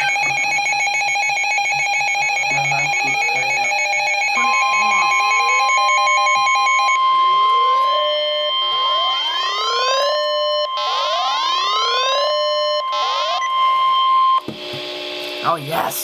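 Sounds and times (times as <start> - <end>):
rising whooping alarm: 0.0 - 14.4
steady high alarm tone: 0.0 - 15.6.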